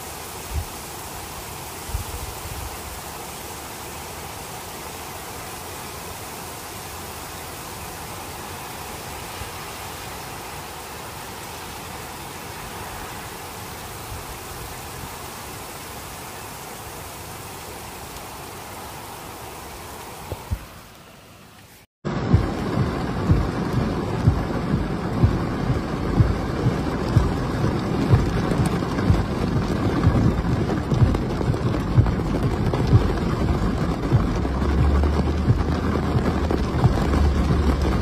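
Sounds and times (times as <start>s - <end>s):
torrential rain hissing: 0.0s - 38.0s.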